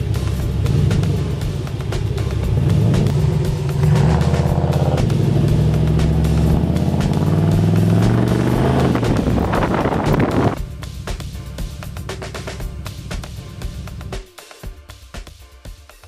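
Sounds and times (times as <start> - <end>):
car engine accelerating: 0.0 - 14.2
music track: 0.0 - 16.0.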